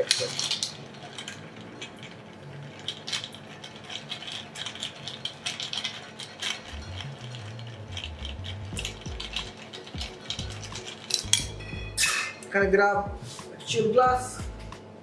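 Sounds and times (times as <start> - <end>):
ice cubes clinking in glass: 0.0 - 12.1.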